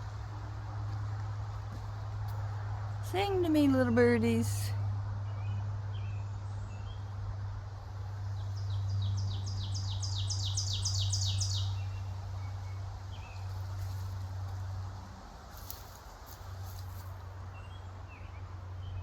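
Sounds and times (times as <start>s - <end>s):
songbird singing: 0.0s - 14.8s, 15.6s - 19.0s
steady low hum: 0.0s - 19.0s.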